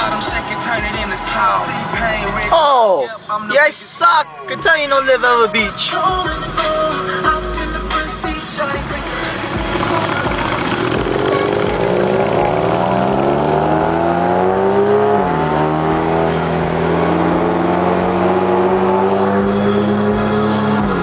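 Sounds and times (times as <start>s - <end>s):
car engine accelerating: 0.0s - 2.7s, 5.9s - 21.0s.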